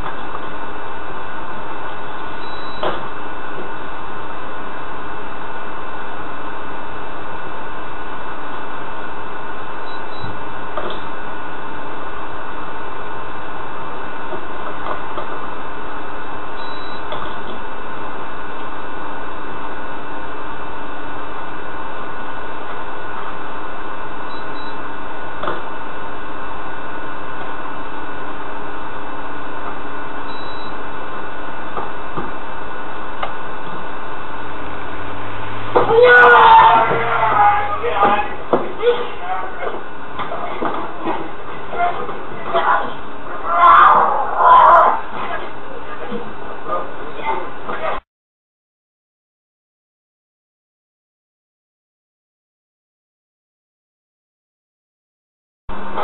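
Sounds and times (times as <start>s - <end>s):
constant hum: 0.0s - 48.0s.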